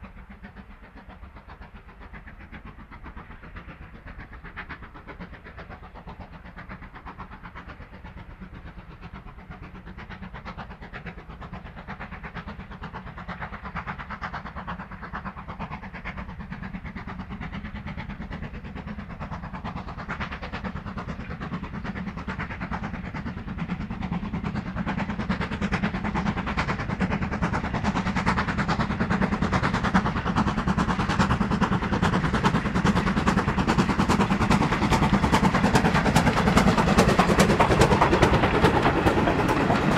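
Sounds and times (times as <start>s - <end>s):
steam locomotive chugging: 0.0s - 39.9s
train rail noise: 0.0s - 39.9s.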